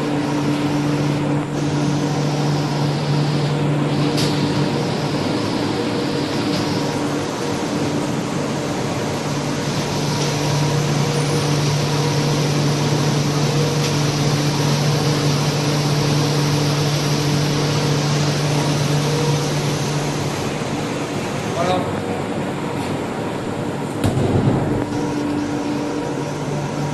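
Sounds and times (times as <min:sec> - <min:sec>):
vacuum pump droning: 0:00.0 - 0:26.9.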